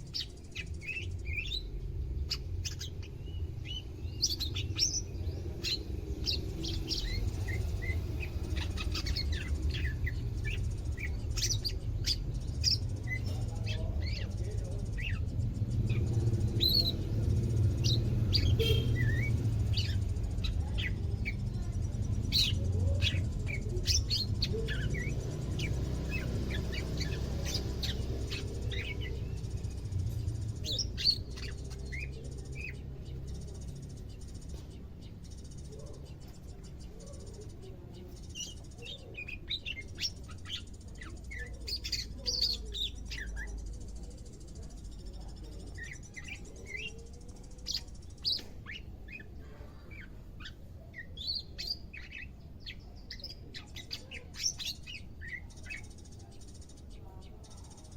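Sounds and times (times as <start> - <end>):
bird chirping and twittering: 0.0 - 57.9.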